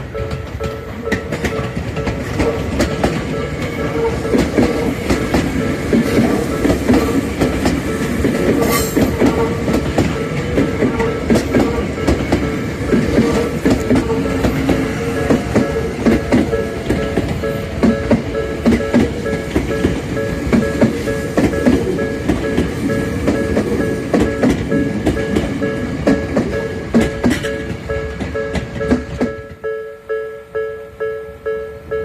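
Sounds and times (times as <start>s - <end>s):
train wheels clattering over rail joints: 0.0s - 29.6s.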